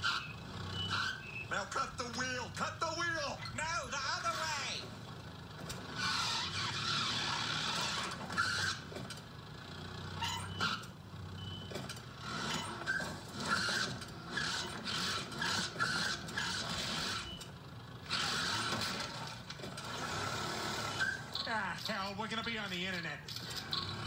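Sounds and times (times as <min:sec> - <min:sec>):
car tyres squealing: 0:00.0 - 0:22.7, 0:23.3 - 0:24.0.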